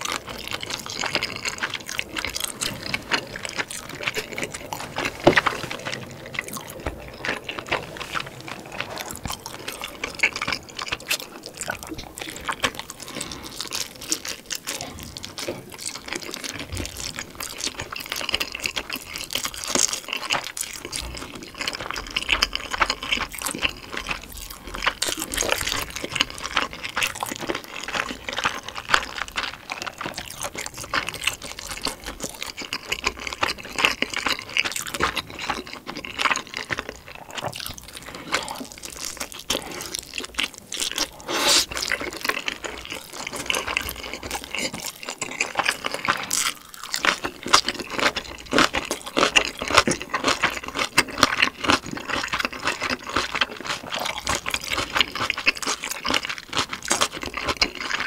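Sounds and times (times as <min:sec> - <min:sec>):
wet chewing and mouth sounds: 0:00.0 - 0:58.0.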